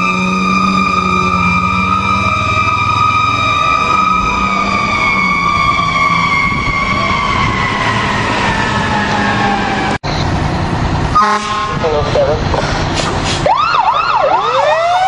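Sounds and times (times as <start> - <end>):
fire truck siren: 0.0 - 15.0.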